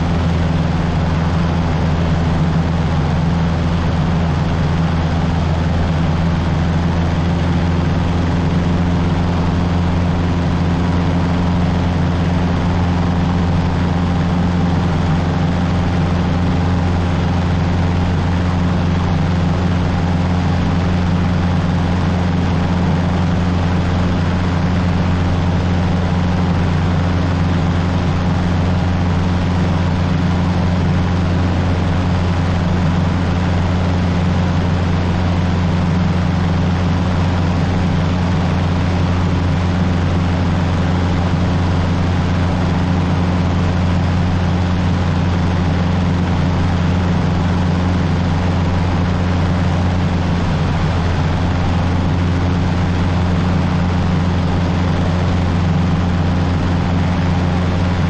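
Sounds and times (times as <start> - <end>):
airplane engine and propeller drone: 0.0 - 58.0.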